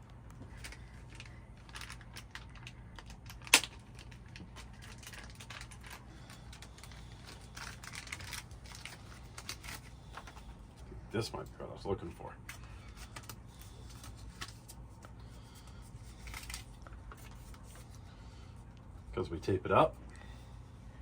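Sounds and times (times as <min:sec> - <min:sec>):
hardware and packaging rustling: 0:00.0 - 0:18.8
low steady hum: 0:00.0 - 0:21.0.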